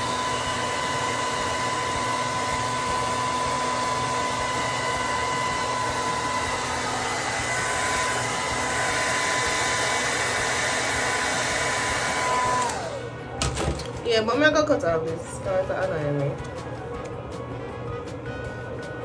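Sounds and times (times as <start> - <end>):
hair dryer blowing: 0.0 - 16.8.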